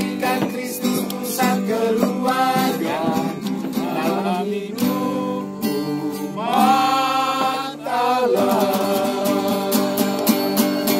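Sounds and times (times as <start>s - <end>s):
men singing a hymn: 0.0s - 10.9s
strummed acoustic guitar: 0.0s - 10.9s.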